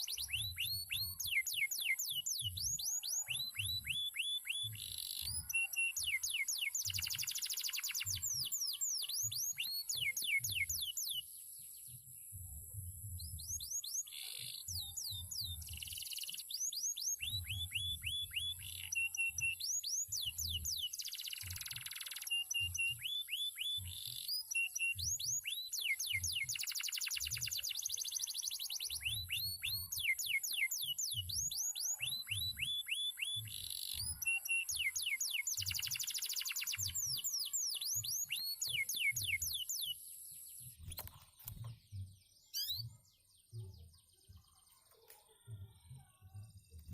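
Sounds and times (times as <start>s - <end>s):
canary singing: 0.0s - 11.3s, 13.5s - 40.0s, 42.5s - 43.0s.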